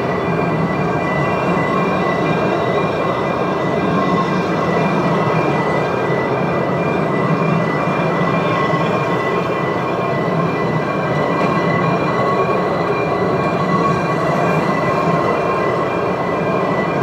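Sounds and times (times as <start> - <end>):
high wheel squeal: 0.0 - 17.0
train wheels rumbling on rails: 0.0 - 17.0.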